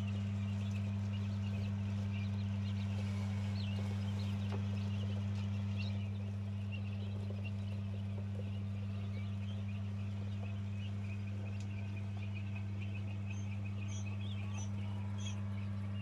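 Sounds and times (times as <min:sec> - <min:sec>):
chicks peeping: 0:00.0 - 0:16.0
low hum: 0:00.0 - 0:16.0.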